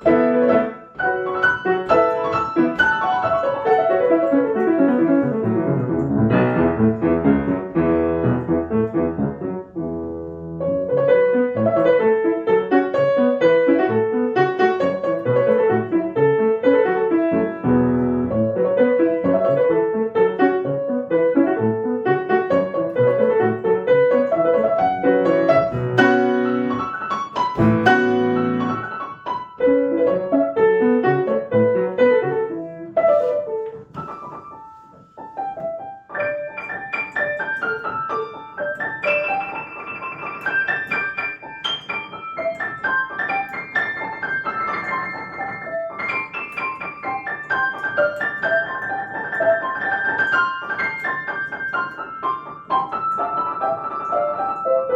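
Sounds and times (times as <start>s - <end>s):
solo piano fast passage: 0.0s - 54.9s.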